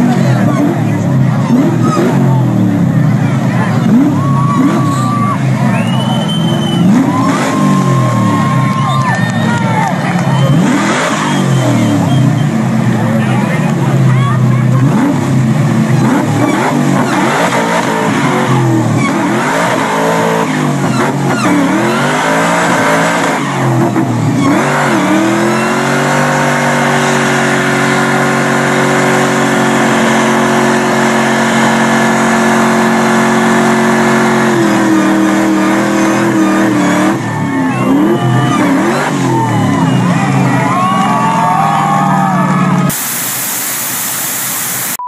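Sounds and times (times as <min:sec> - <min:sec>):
car engine revving: 0:00.0 - 0:40.7, 0:42.8 - 0:45.0
tires spinning: 0:00.0 - 0:45.0.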